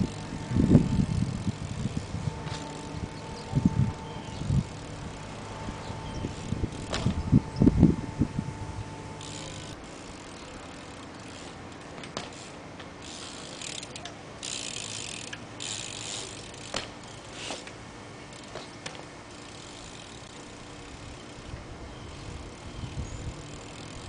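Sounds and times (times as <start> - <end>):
bike hub ratchet buzzing: 0.0 - 24.0.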